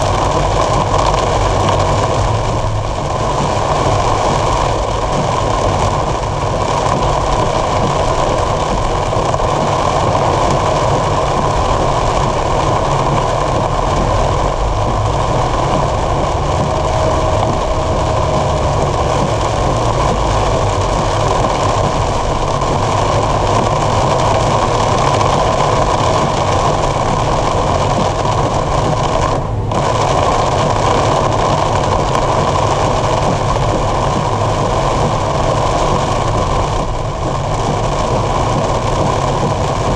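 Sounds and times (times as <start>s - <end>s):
heavy rain on car roof: 0.0s - 39.9s
tyre noise on wet road: 0.0s - 39.9s.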